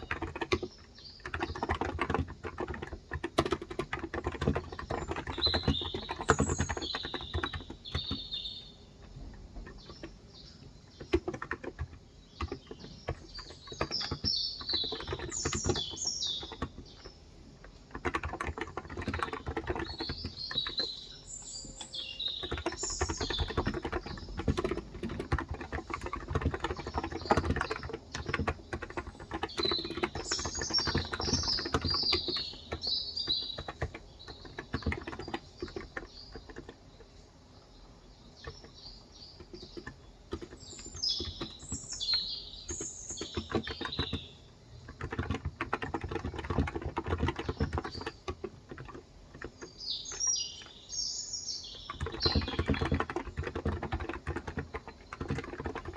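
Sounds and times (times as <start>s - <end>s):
keyboard typing: 0.0s - 37.0s, 38.3s - 50.8s, 51.6s - 55.9s
birds twittering: 0.0s - 55.9s.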